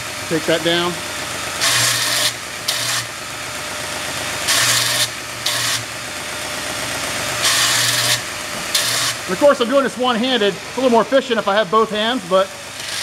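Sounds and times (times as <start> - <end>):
belt grinder running: 0.0 - 13.0.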